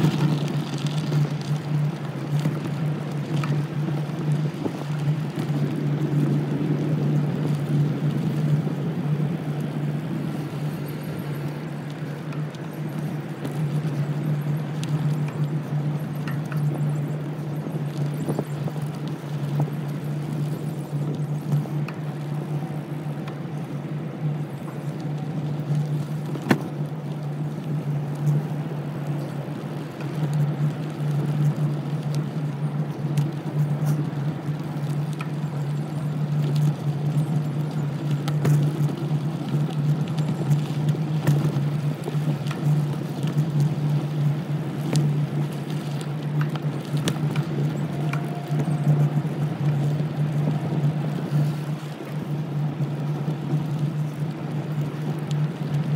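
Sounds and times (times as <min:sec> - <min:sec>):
bicycle clicks and knocks over bumps: 0:00.0 - 0:55.9
bicycle tyres rolling hum: 0:00.0 - 0:55.9.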